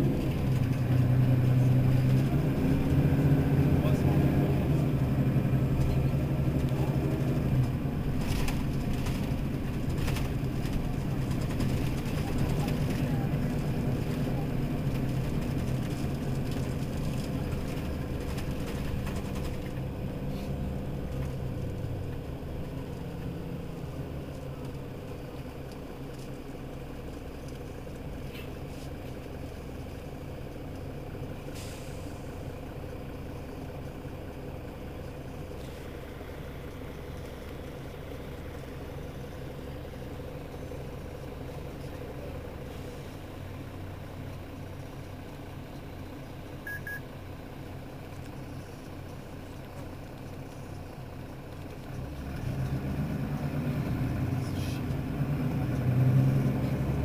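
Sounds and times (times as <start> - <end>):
bus engine idling: 0.0 - 57.0.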